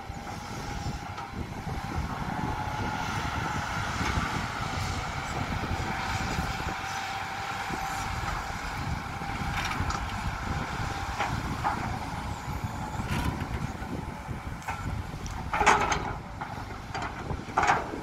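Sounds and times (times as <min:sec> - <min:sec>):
diesel engines rumbling: 0:00.0 - 0:18.0
high engine whine: 0:00.0 - 0:18.0.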